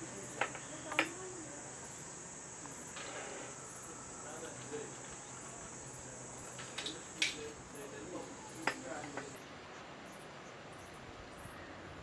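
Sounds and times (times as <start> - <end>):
faint low voices talking: 0.0 - 10.0
crickets chirring: 0.0 - 12.0.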